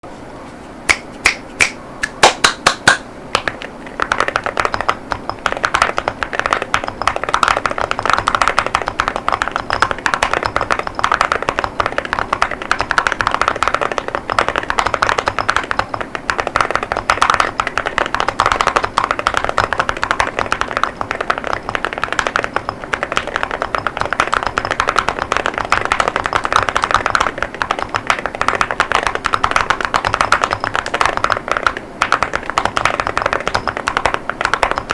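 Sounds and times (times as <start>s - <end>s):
mechanical keyboard typing: 2.8s - 34.9s.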